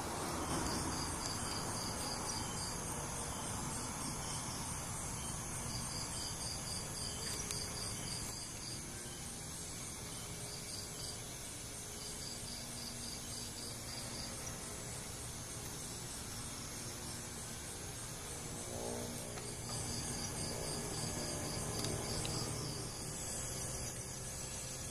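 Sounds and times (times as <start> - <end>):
background hiss: 0.0 - 24.9
crickets chirping: 0.0 - 24.9.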